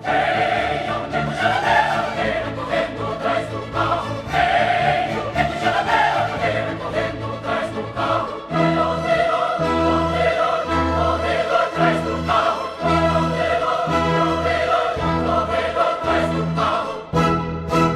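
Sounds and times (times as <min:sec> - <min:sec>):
voices singing in chorus: 0:00.0 - 0:17.2.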